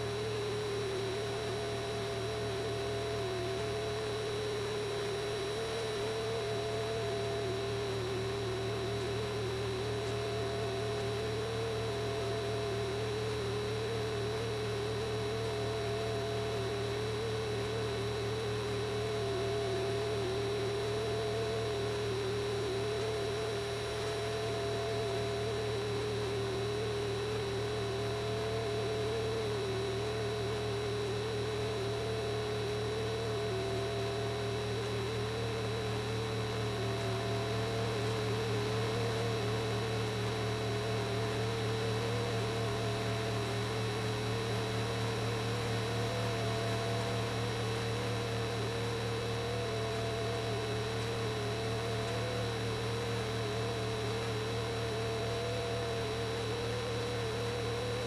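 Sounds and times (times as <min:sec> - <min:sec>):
low hum and hiss: 0:00.0 - 0:58.0.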